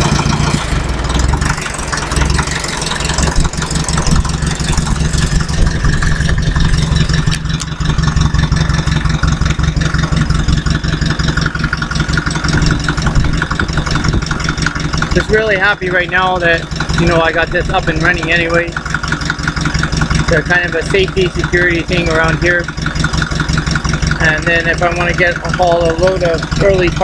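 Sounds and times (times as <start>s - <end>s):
diesel tractor engine idling: 0.0s - 27.0s.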